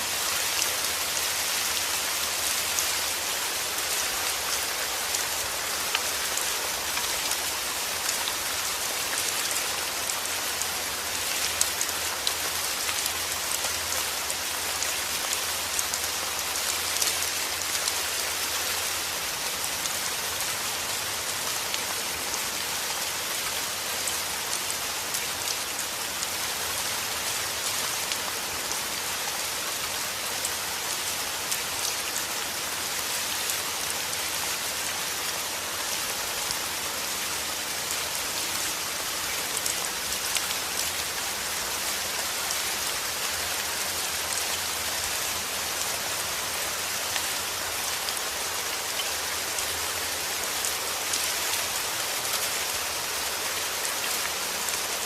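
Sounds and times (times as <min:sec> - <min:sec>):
heavy rain falling: 0:00.0 - 0:55.0
raindrops ticking on surface: 0:00.1 - 0:55.0.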